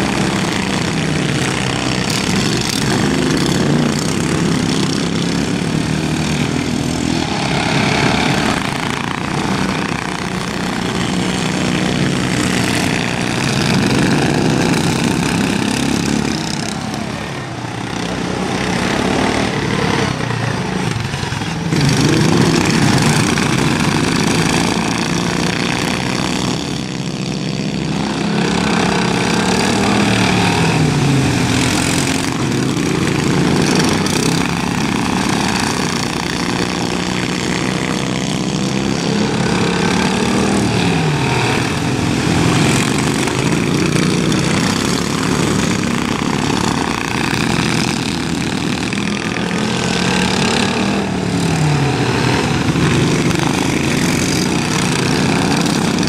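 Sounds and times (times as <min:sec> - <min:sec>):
lawn mower engines racing: 0:00.0 - 0:56.0.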